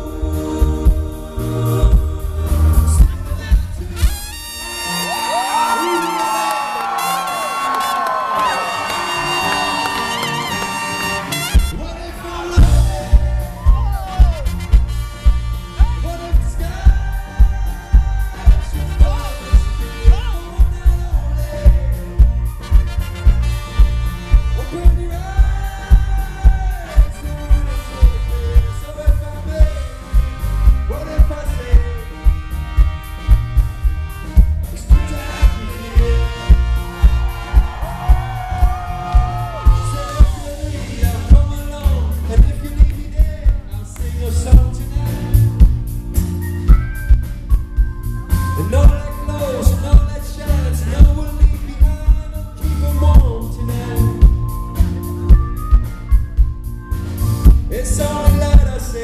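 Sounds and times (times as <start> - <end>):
steady drum beat: 0.0 - 4.9, 10.6 - 59.0
live band playing upbeat song: 0.0 - 59.0.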